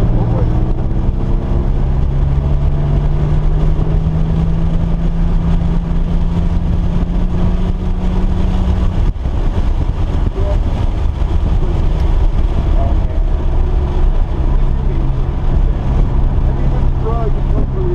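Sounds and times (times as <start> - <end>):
car engine running: 0.0 - 17.9.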